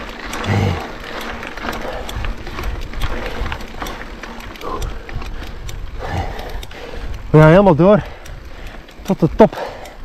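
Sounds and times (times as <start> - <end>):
bike tyres crunching over stones: 0.0 - 9.7
bike rattling and clicking: 0.0 - 10.0.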